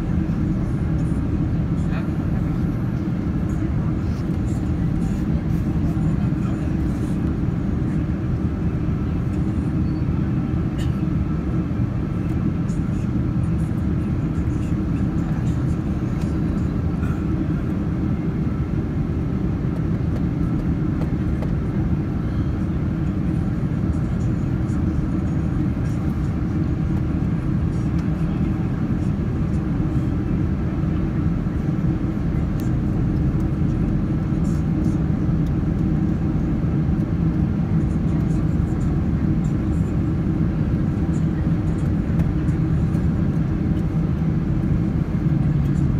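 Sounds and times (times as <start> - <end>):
airliner engines rumbling in cabin: 0.0 - 45.9.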